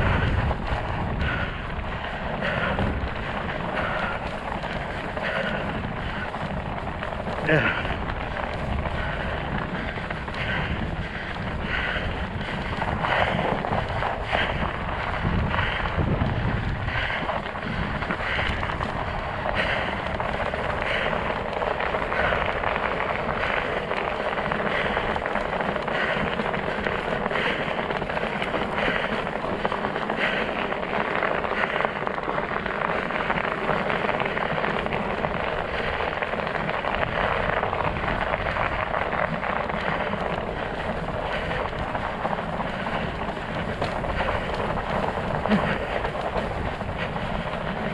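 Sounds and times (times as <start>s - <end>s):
tires rolling over ice and snow: 0.0s - 47.9s
wind rumbling on microphone: 0.0s - 47.9s.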